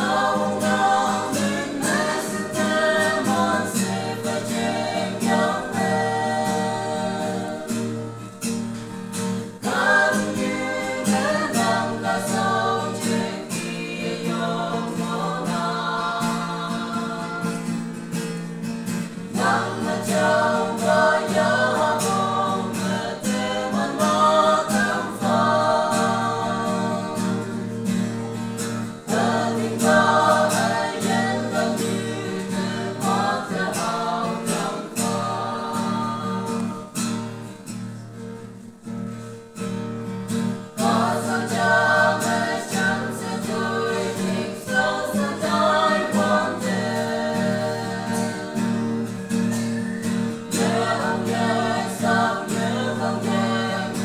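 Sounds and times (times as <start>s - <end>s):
strummed acoustic guitar: 0.0s - 54.0s
vocal group singing in harmony: 0.0s - 54.0s.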